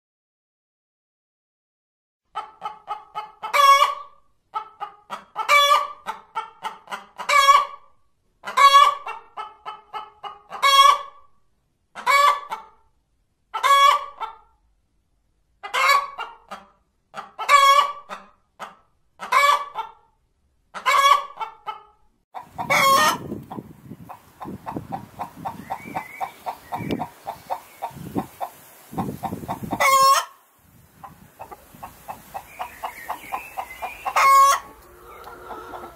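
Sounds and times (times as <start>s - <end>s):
hen cackling: 2.3s - 7.8s, 8.4s - 11.2s, 12.0s - 12.8s, 13.5s - 14.4s, 15.6s - 20.0s, 20.8s - 35.9s.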